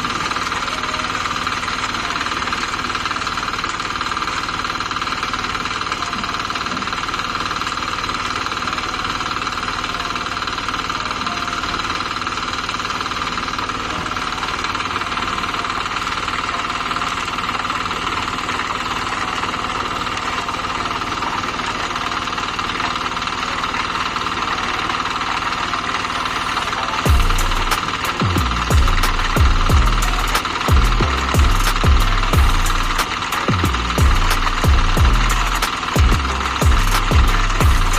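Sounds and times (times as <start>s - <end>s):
engine droning: 0.0s - 37.9s.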